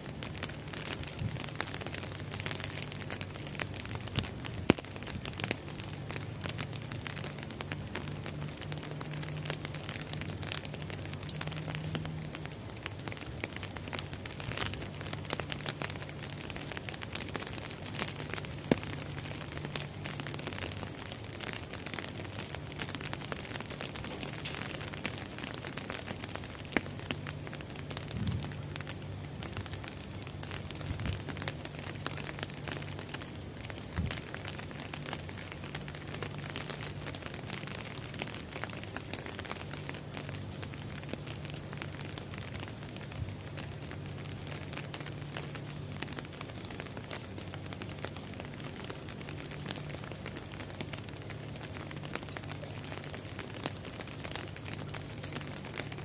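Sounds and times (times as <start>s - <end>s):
rain pattering on glass: 0.0s - 56.0s.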